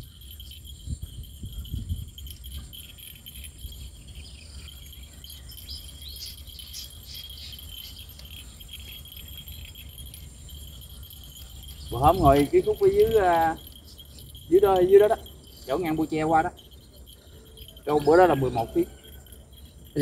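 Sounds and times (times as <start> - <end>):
insects trilling: 0.0 - 20.0
light high clinks: 0.0 - 20.0.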